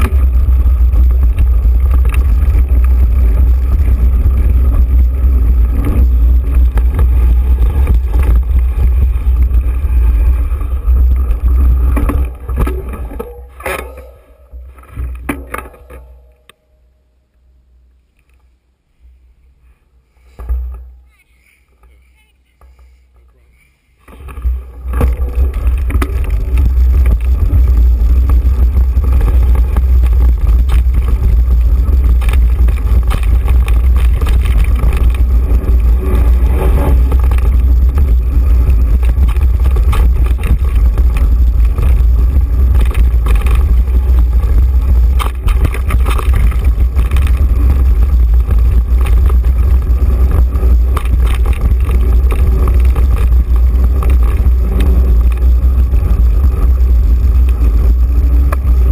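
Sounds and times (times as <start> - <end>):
bike rattles and knocks: 0.0 - 16.6, 22.6 - 58.9.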